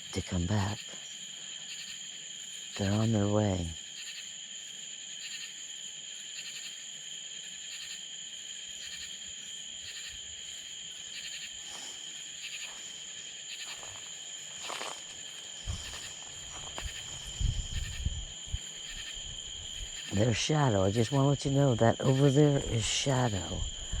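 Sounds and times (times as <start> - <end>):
crickets trilling: 0.0 - 24.0
pulsed insect chirp: 0.0 - 24.0.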